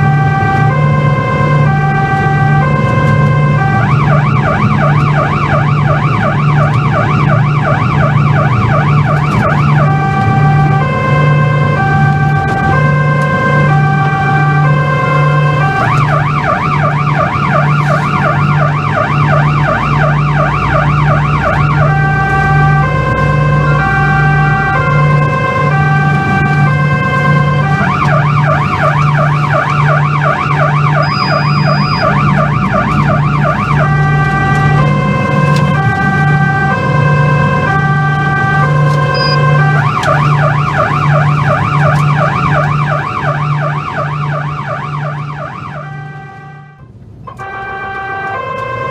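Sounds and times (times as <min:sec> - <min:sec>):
police siren: 0:00.0 - 0:48.9.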